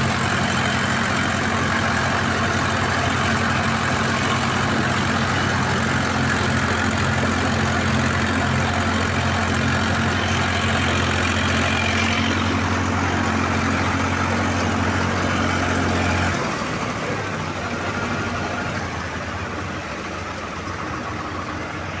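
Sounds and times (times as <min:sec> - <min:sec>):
quiet engine rumble: 0:00.0 - 0:22.0
tractor diesel engine droning: 0:00.0 - 0:22.0.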